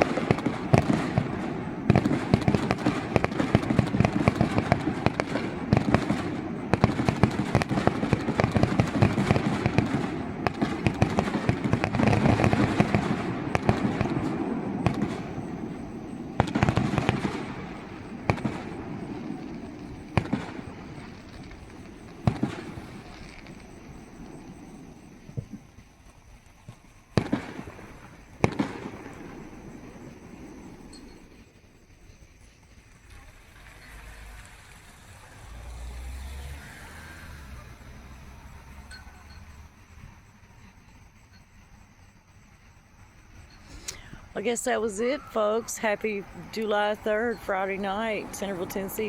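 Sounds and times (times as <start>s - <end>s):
fireworks bangs and crackle: 0.0s - 49.0s.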